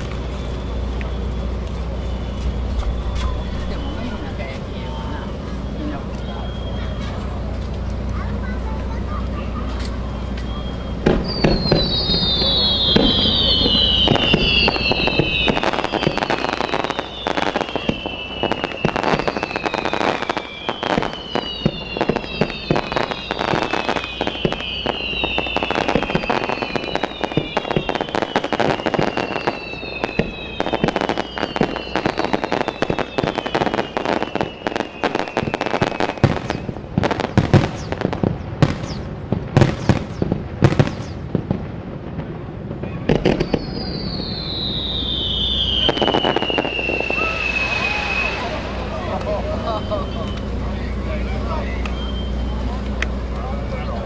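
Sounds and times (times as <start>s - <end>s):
firework whistles falling in pitch: 0.0s - 41.3s, 42.8s - 54.0s
crackle of small bursts: 0.0s - 54.0s
firework bangs: 0.0s - 54.0s.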